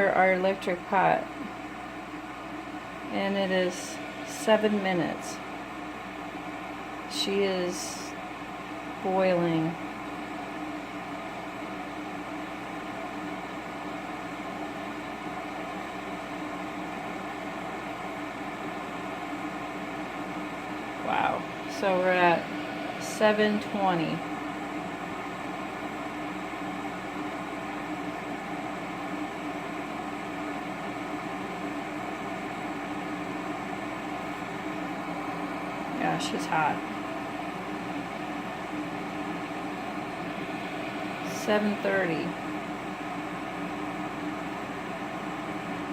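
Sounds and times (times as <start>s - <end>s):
electric kettle boiling: 0.0s - 45.9s.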